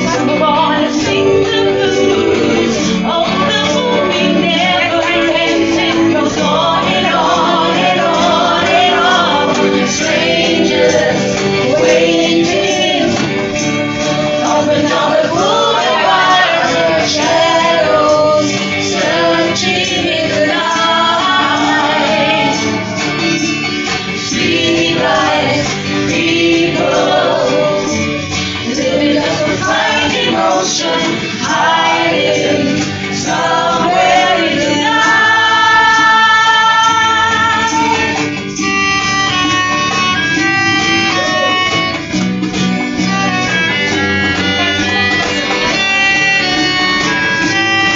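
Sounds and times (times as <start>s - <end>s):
group singing: 0.0s - 38.7s
acoustic guitar: 0.0s - 47.9s.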